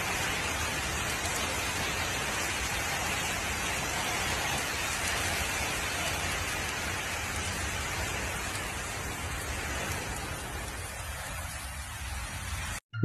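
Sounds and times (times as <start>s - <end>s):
heavy rain pouring: 0.0s - 12.8s.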